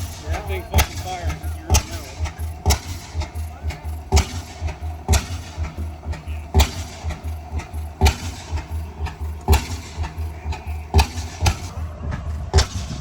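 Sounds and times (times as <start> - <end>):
stationary engine banging: 0.0 - 13.0.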